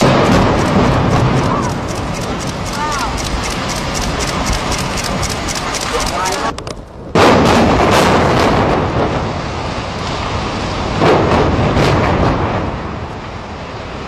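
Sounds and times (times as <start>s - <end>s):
building collapse rumble: 0.0s - 14.0s.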